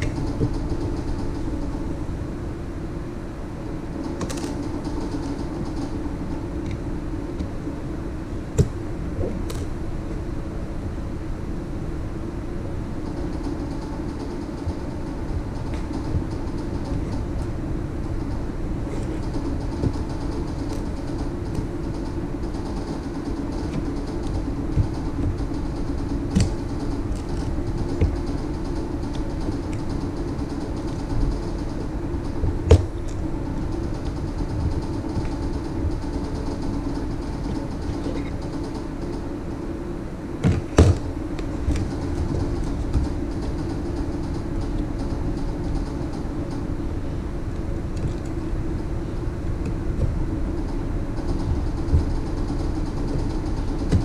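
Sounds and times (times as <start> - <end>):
mechanical hum: 0.0 - 54.0.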